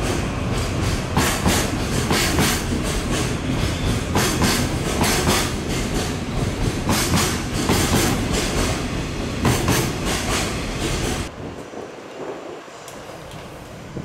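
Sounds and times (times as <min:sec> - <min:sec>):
train wheels clattering on rails: 0:00.0 - 0:14.0.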